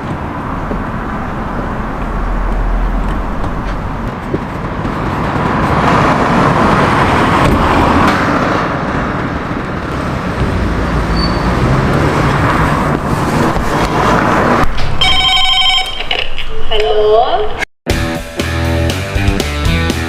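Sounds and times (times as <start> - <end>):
road traffic rushing: 0.0 - 17.6.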